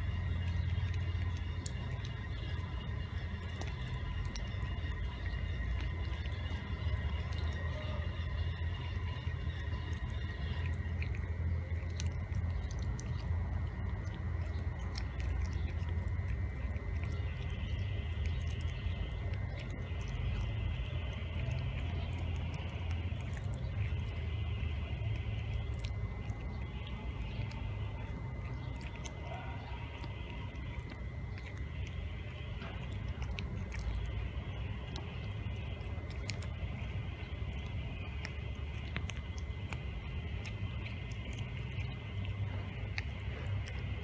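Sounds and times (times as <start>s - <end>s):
cat chewing and crunching: 0.0s - 44.0s
low rumble: 0.0s - 44.0s.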